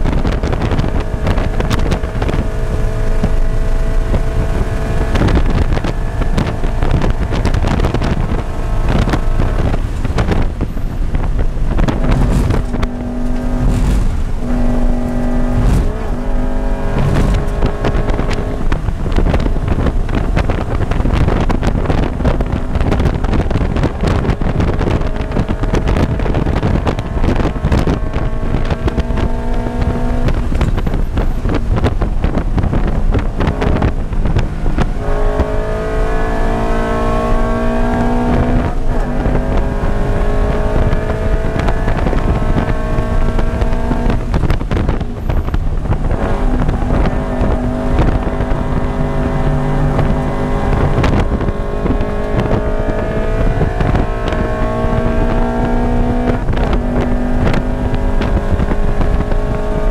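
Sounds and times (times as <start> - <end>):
car engine at high revs: 0.0 - 59.9
wind and road noise: 0.0 - 59.9.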